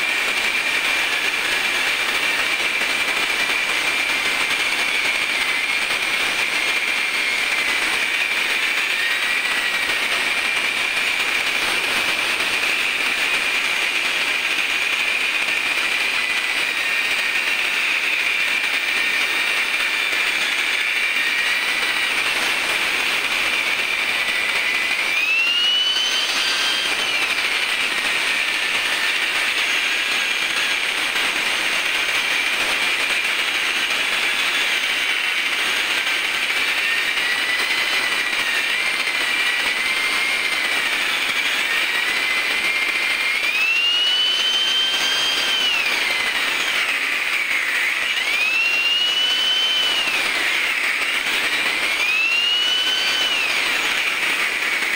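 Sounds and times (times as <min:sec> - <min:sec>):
angle grinder motor whine: 0:00.0 - 0:54.9.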